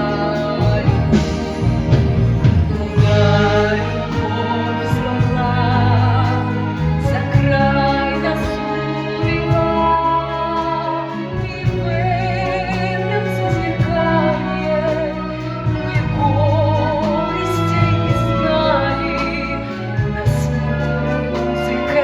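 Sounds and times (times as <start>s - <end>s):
instrumental accompaniment: 0.0s - 22.0s
woman singing: 0.0s - 22.0s.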